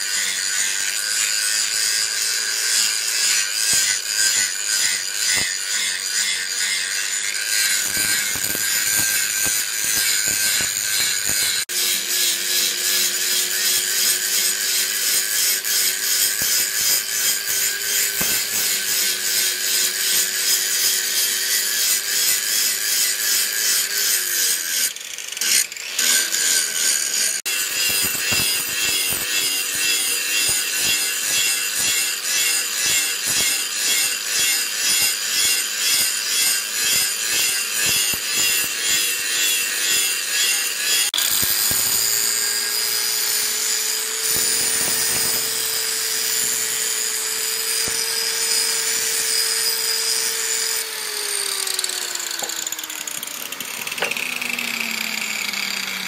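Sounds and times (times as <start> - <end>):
angle grinder grinding metal: 0.0 - 56.0.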